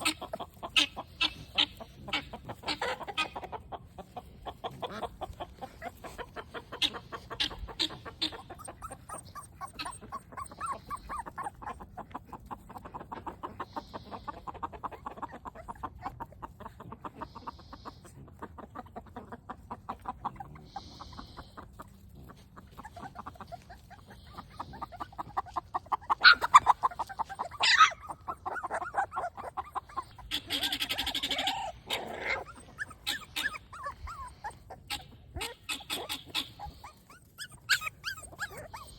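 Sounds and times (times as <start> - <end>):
chickens clucking: 0.0 - 38.9
sharp chicken calls: 0.0 - 38.9.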